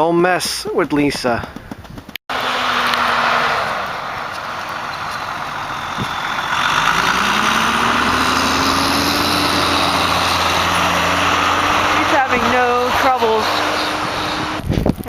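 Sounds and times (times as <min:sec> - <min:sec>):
engine revving up: 0:02.3 - 0:14.7.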